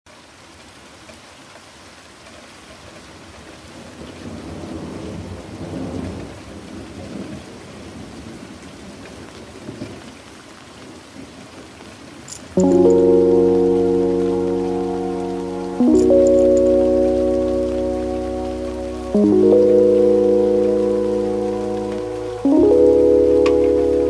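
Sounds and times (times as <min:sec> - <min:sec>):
heavy rain falling: 0:00.1 - 0:24.0.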